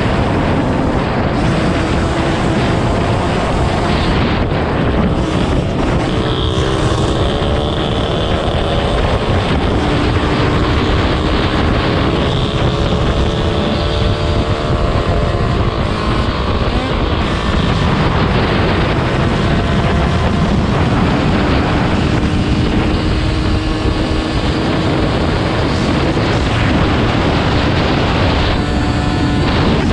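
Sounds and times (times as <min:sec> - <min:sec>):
dirt bike engine: 0:00.0 - 0:29.9
wind buffeting microphone: 0:00.0 - 0:29.9.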